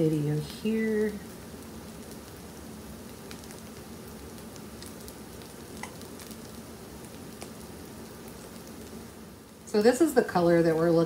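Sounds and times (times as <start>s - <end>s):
batter sizzling in waffle maker: 0.0s - 11.0s.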